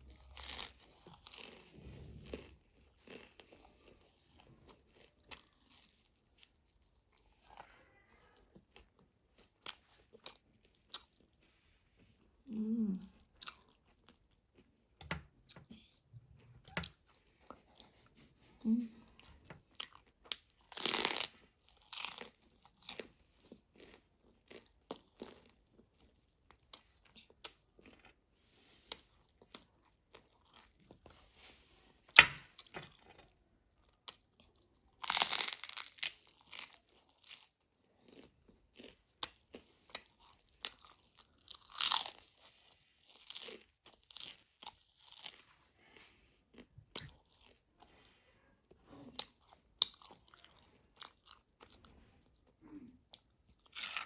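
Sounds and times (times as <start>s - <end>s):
person chewing and crunching: 0.0s - 18.5s, 19.1s - 54.0s.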